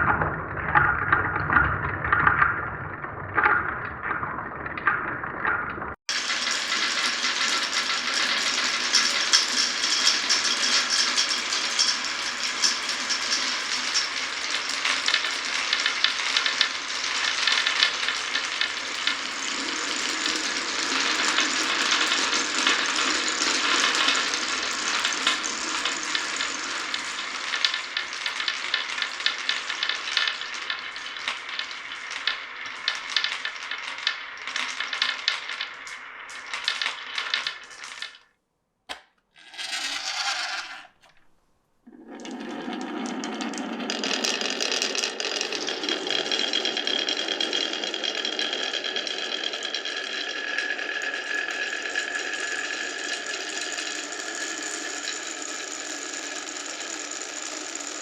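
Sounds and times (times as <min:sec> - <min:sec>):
glass marbles rolling and clattering: 0:00.0 - 0:38.3, 0:39.4 - 0:41.3, 0:41.9 - 0:58.0.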